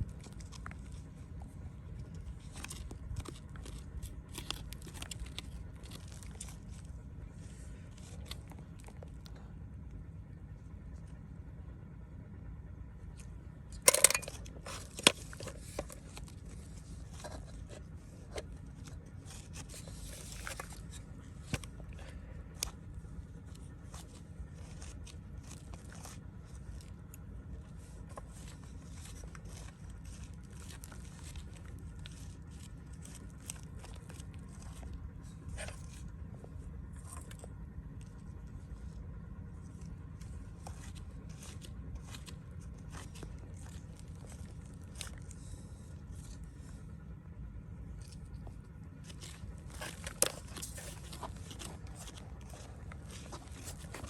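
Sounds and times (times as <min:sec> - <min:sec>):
scraping and crunching: 0:00.0 - 0:09.5, 0:13.1 - 0:54.0
steady low rumble: 0:00.0 - 0:54.0.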